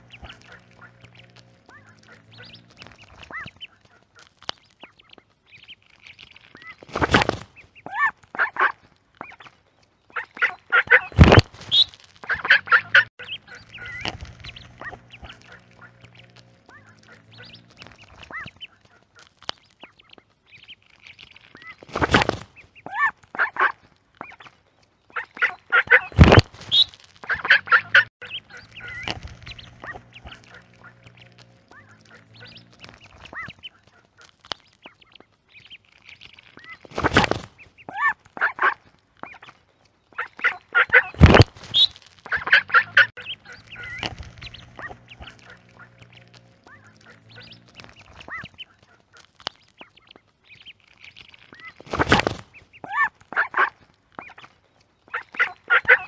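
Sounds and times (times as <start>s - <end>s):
ducklings peeping: 0.0s - 56.0s
ducks quacking: 0.0s - 56.0s.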